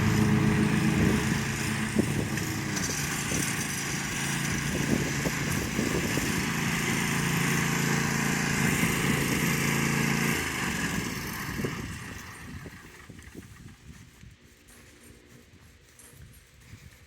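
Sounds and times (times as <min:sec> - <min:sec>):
lawn tractor engine running: 0:00.0 - 0:14.0.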